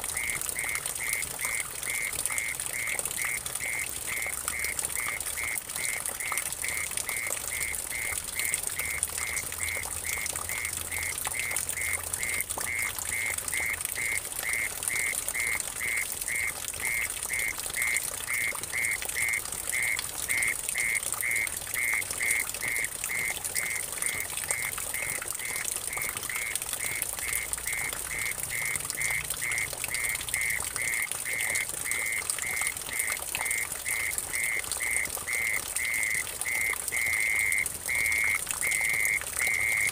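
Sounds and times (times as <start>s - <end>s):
water dripping into a puddle: 0.0s - 39.9s.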